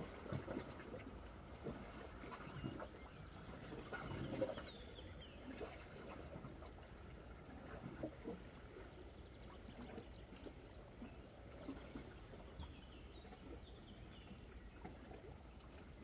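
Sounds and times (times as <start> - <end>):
small waves lapping on rocks: 0.0 - 16.0.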